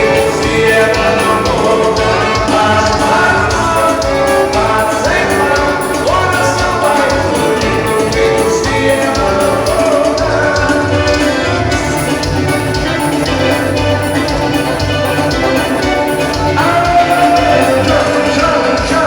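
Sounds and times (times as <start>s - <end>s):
person singing: 0.0s - 12.1s, 15.6s - 19.0s
band playing music: 0.0s - 19.0s.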